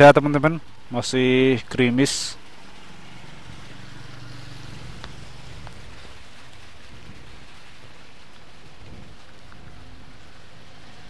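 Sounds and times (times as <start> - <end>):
light rain falling: 0.0 - 11.0
raindrop ticks: 0.0 - 11.0.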